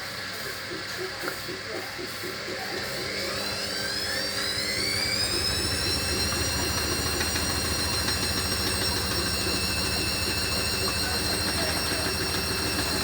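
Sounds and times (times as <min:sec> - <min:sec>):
washing machine motor whine: 0:00.0 - 0:13.0.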